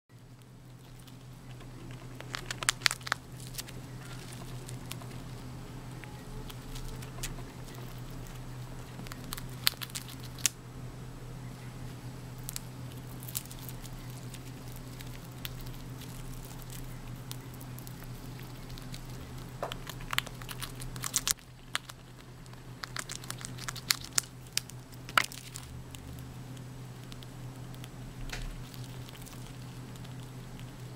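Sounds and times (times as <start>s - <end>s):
squirrel gnawing pine cone: 0.1s - 10.6s, 11.4s - 30.9s
steady low hum: 0.1s - 30.9s.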